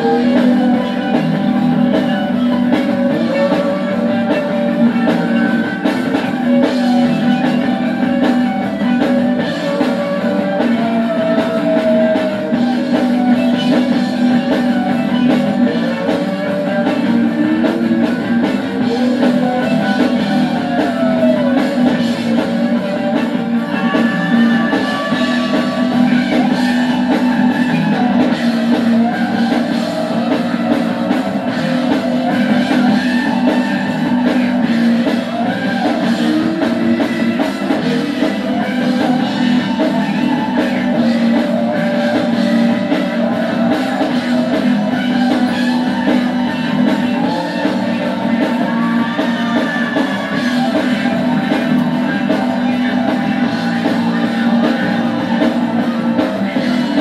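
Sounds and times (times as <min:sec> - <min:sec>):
guitar-driven rock music: 0:00.0 - 0:57.0
person singing: 0:00.0 - 0:57.0.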